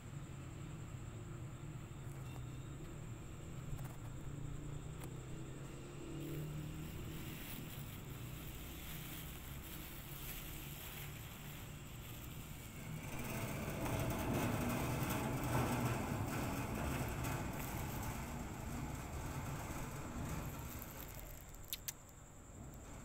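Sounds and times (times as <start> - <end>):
low vehicle engine hum: 0.0 - 23.0
traffic noise: 0.0 - 23.0.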